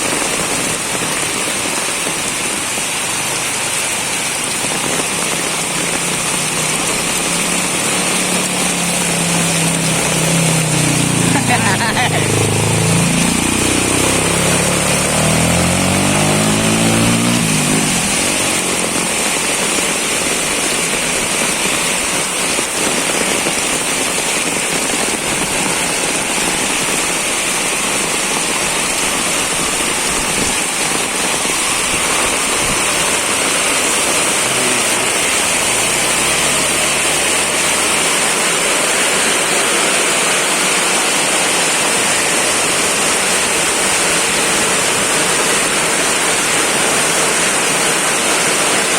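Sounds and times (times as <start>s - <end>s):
heavy rain pouring: 0.0s - 48.9s
vehicle engine passing: 3.8s - 22.3s, 24.4s - 48.9s.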